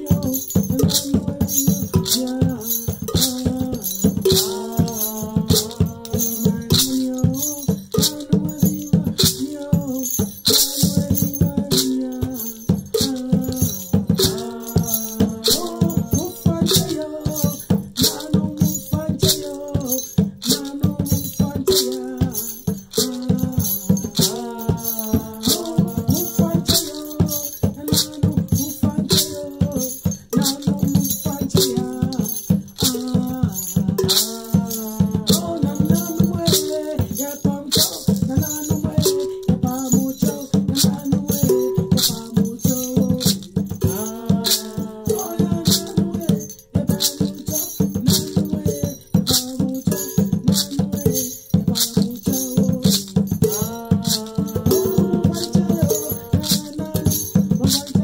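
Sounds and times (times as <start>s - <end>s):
drum and rattle rhythm: 0.0s - 58.0s
person singing a chant: 0.0s - 58.0s.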